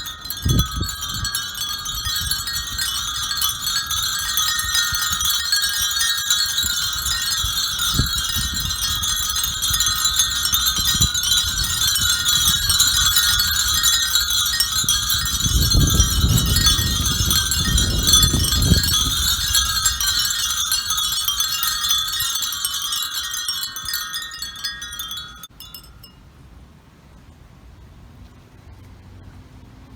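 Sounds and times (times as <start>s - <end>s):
wind chimes tinkling: 0.0s - 26.2s.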